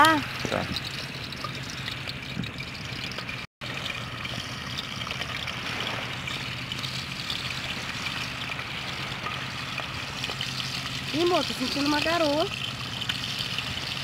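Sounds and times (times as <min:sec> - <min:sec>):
fish frying in oil: 0:00.0 - 0:14.0.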